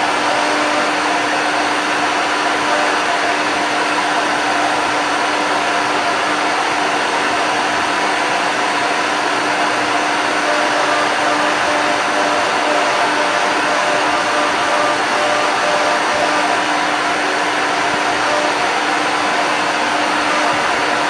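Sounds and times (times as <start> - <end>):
router spindle cutting wood: 0.0 - 21.0.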